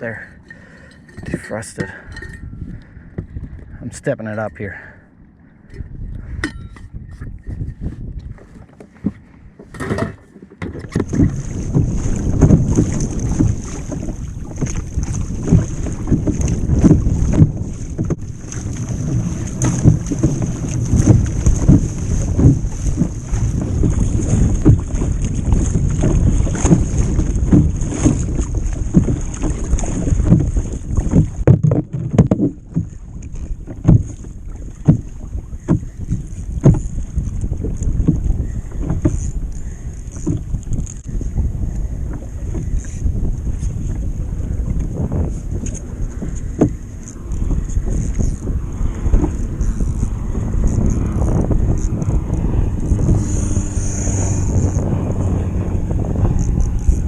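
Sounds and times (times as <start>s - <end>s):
water rushing against hull: 0.0s - 57.0s
wind buffeting microphone: 0.0s - 57.0s.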